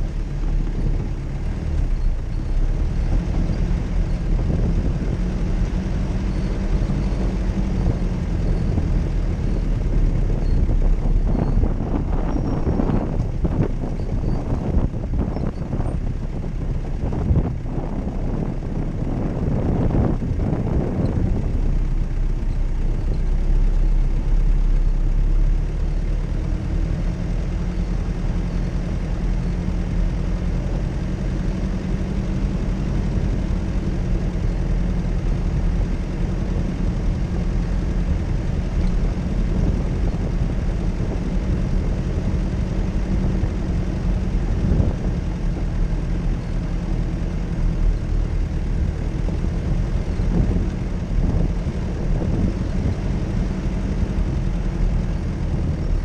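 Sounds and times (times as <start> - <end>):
vehicle engine running at low revs: 0.0 - 56.0.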